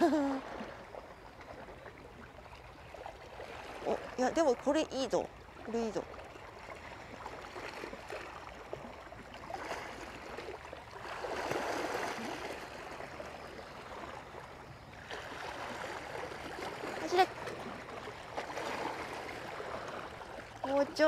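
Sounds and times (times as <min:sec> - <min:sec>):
sea water lapping against rocks: 0:00.3 - 0:21.0.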